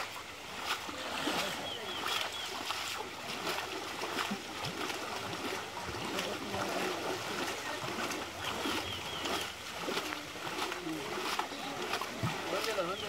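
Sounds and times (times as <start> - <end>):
fish splashing in water: 0.0 - 13.0.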